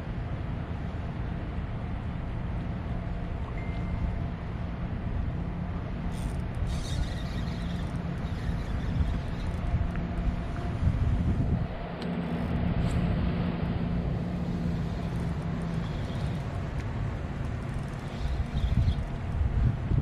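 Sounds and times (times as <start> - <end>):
wind rumble on microphone: 0.0 - 20.0
motor hum: 2.7 - 20.0.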